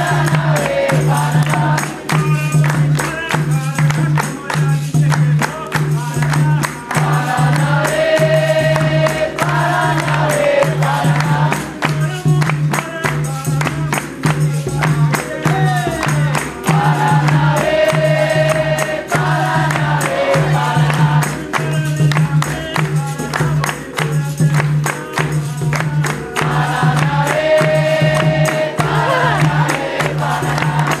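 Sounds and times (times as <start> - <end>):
berimbaus and pandeiros rhythm: 0.0 - 31.0
group singing call and response: 0.0 - 31.0.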